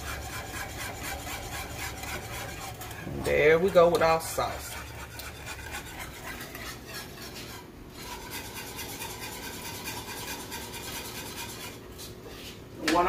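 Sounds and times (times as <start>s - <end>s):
whisk scraping a saucepan: 0.0s - 13.0s.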